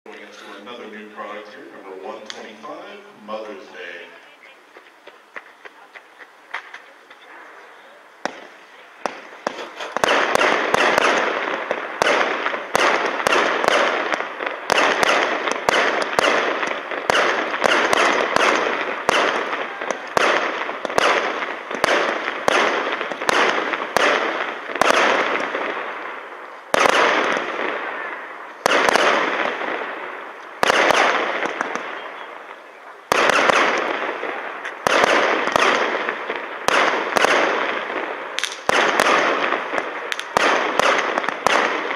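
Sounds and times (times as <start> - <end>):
fireworks cake firing shots: 8.2 - 41.9.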